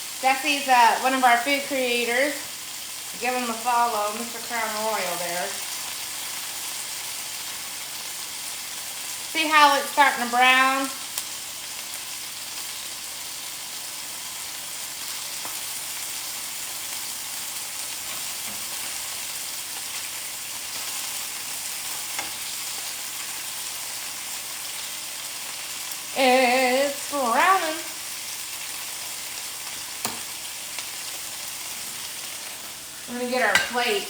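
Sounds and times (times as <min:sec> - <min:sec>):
chicken sizzling in oil: 0:00.0 - 0:34.0.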